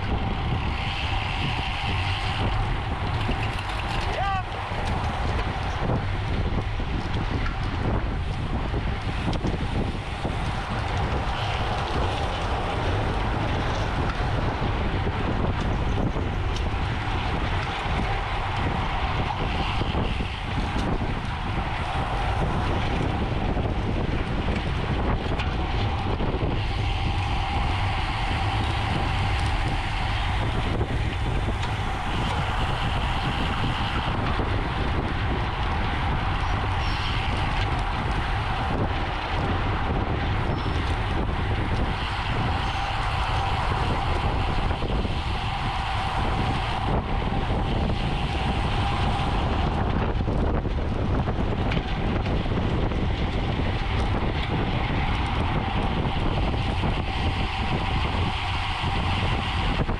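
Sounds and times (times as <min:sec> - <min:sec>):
road hum: 0:00.0 - 0:59.9
wind rushing over microphone: 0:00.0 - 0:59.9.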